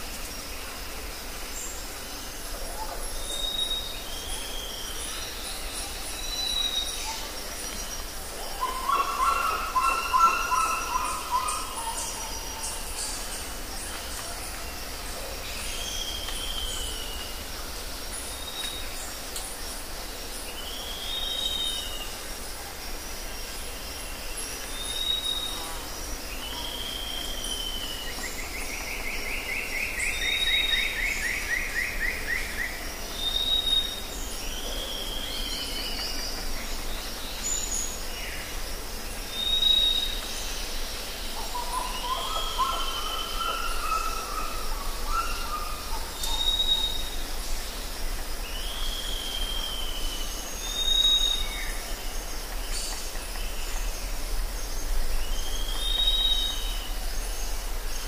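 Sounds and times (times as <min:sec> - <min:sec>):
outdoor background noise: 0:00.0 - 0:58.0
songbirds calling: 0:00.0 - 0:58.0.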